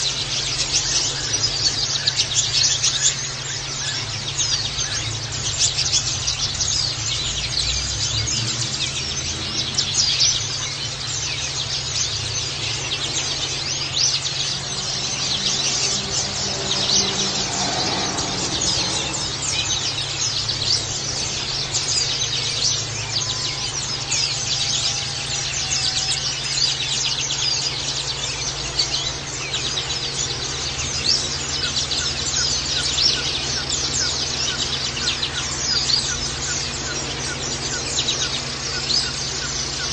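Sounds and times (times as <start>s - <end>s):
small birds chirping and twittering: 0.0s - 39.9s
steady low hum: 0.0s - 39.9s.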